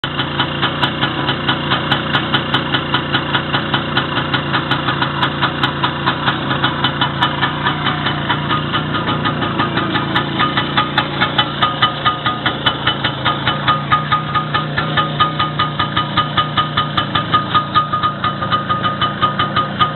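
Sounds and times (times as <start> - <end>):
engine idling: 0.0 - 19.9.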